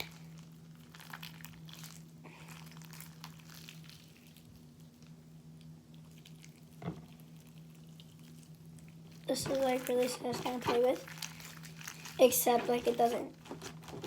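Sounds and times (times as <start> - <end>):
hands squishing slime: 0.0 - 14.0
steady low hum: 0.0 - 14.0.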